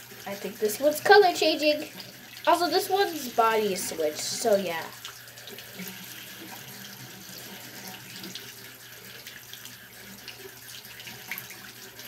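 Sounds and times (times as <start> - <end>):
faucet water splashing into basin: 0.0 - 12.0.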